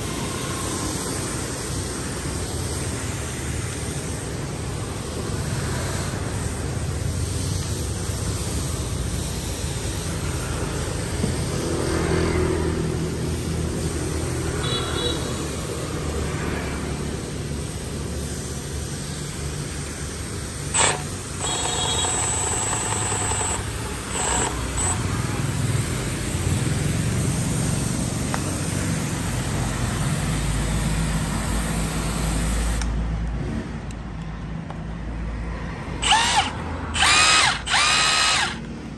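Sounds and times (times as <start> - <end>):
road traffic hum: 0.0 - 38.9.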